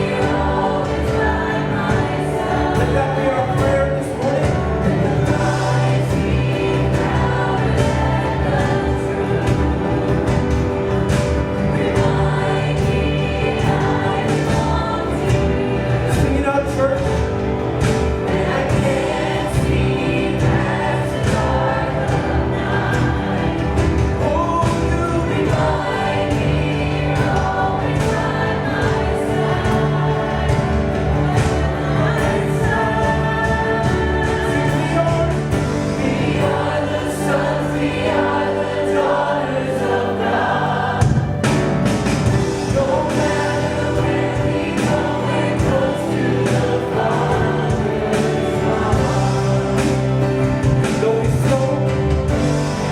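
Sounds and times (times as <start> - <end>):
congregation singing: 0.0 - 52.9
full band with steady beat: 0.0 - 52.9.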